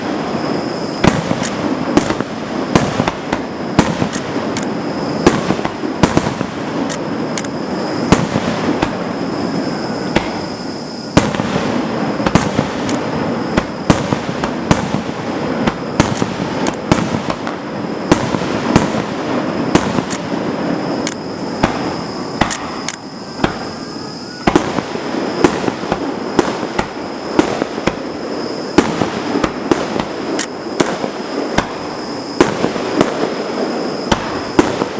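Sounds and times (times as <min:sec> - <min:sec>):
thin steady high tone: 0:00.0 - 0:01.1, 0:03.4 - 0:06.0, 0:06.9 - 0:16.6, 0:17.5 - 0:34.9
fireworks bangs and crackling: 0:00.0 - 0:34.9
rumble of explosions: 0:00.0 - 0:34.9.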